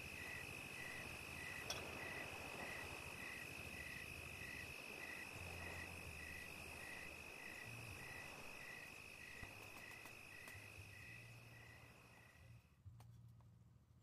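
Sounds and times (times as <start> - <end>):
insect chirping in pulses: 0.0 - 12.6.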